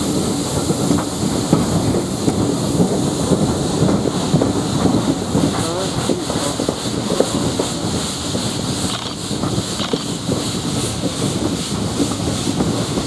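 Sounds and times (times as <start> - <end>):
steam hissing: 0.0 - 13.0
steam locomotive exhaust beats: 0.0 - 13.0
train clattering on rails: 0.0 - 13.0
wind: 0.0 - 13.0.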